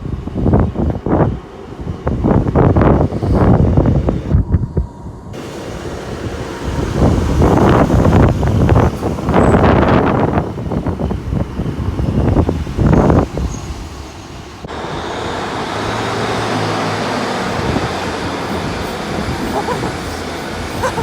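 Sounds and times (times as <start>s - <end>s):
diesel train engine humming: 0.0s - 21.0s
wind buffeting microphone: 0.0s - 21.0s.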